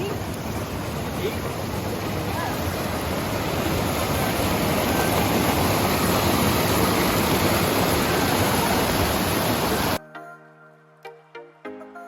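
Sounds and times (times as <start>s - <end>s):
water rushing over small waterfall: 0.0s - 10.0s.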